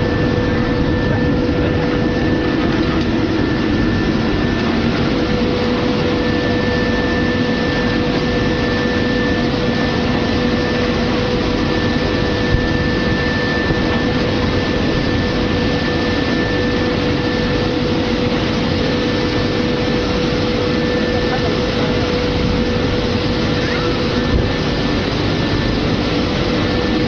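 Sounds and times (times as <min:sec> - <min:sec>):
machine hum: 0:00.0 - 0:27.0
water spraying and churning: 0:00.0 - 0:27.0.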